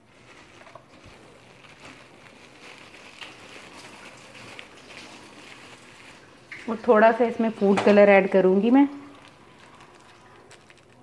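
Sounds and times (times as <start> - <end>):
faint room noise hiss: 0.0 - 11.0.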